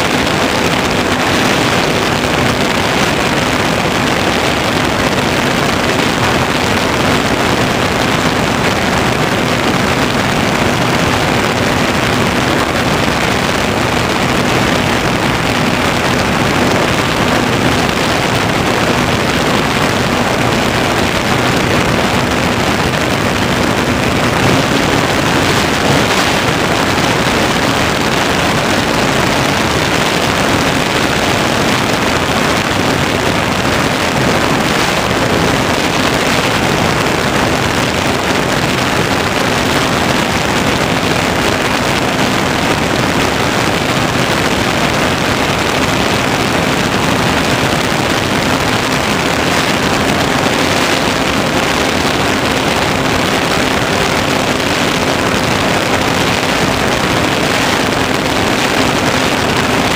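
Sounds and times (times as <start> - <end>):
rush of airflow over microphone: 0.0 - 59.9.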